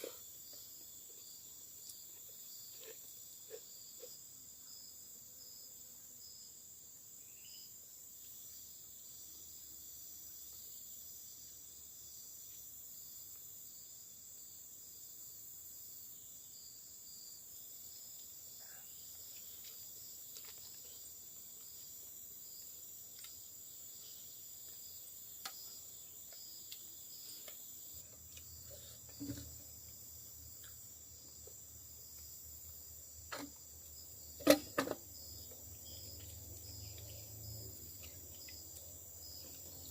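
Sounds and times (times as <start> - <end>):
forest insects chorus: 0.0 - 39.9.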